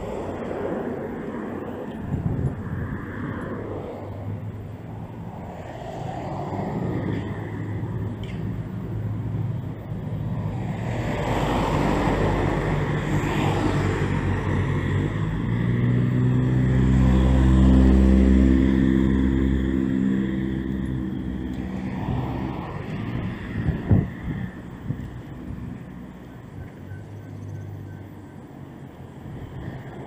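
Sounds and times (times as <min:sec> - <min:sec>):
road traffic noise: 0:00.0 - 0:30.0
truck engine hum passing: 0:00.0 - 0:30.0.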